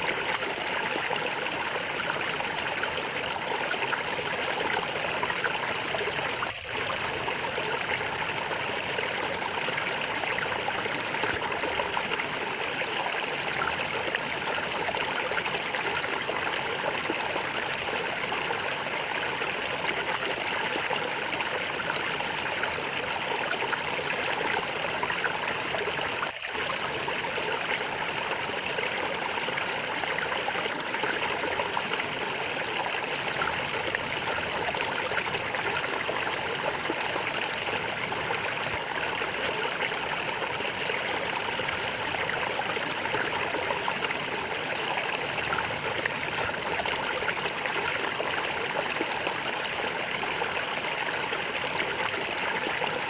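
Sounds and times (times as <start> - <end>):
water gurgling and trickling: 0.0 - 53.0.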